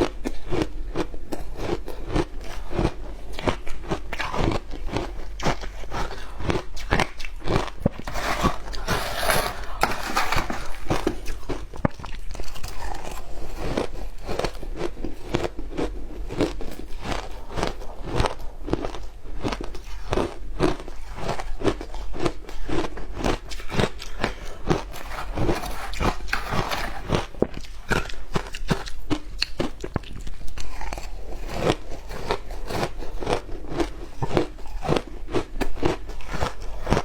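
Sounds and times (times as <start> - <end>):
ice crunching between teeth: 0.0 - 37.0.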